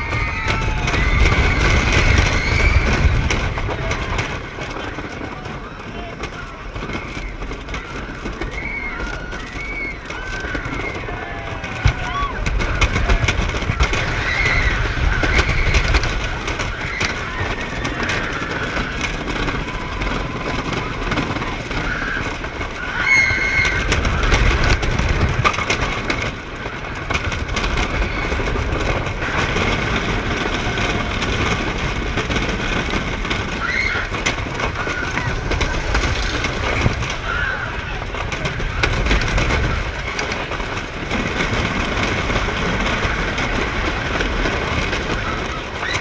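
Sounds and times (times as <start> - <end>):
riders shouting: 0.0 - 46.0
roller coaster train rumbling: 0.0 - 46.0
wind rushing over microphone: 0.0 - 46.0.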